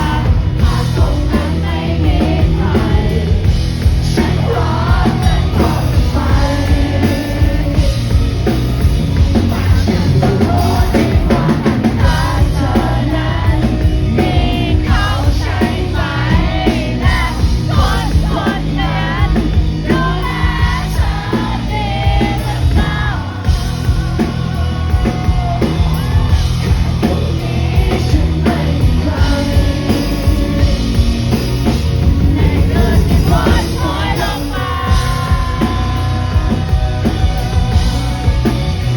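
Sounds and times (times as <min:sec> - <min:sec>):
live rock band with singer: 0:00.0 - 0:38.9.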